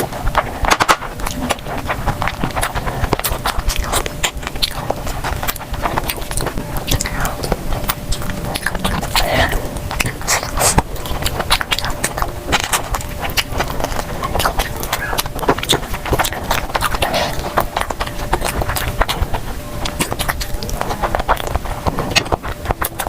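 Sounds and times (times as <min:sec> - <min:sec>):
mouth clicks and crunches: 0:00.0 - 0:23.0
person chewing and biting food: 0:00.0 - 0:23.0.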